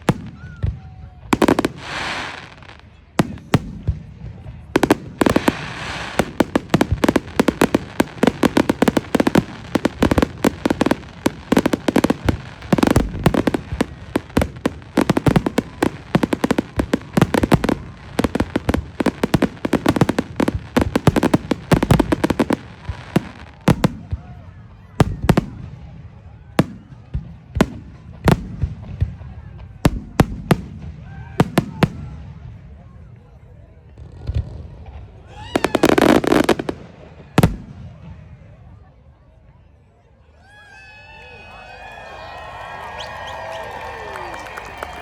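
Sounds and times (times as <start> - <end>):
fireworks bangs and crackling: 0.0 - 39.7, 42.2 - 45.0.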